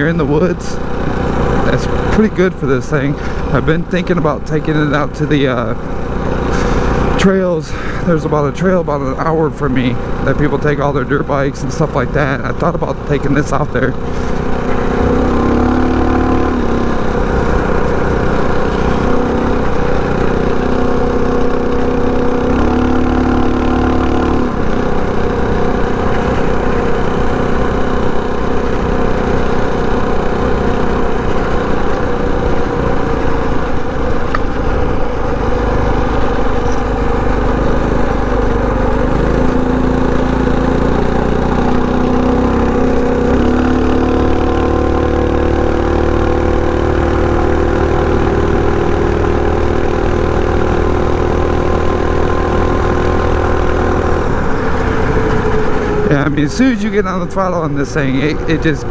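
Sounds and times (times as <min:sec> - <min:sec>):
mini bike engine running: 0:00.0 - 0:58.9.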